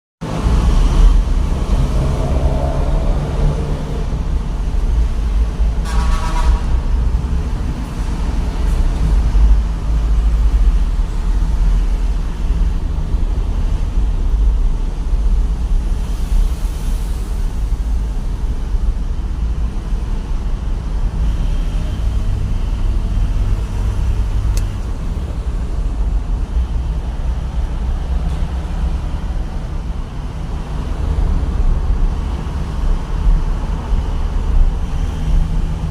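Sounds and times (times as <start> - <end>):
truck engine and road rumble: 0.2 - 35.9.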